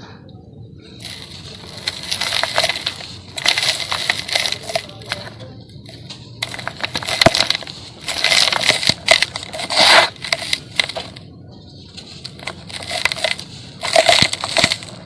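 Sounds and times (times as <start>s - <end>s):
dry cement chunks crumbling: 0.8s - 15.0s.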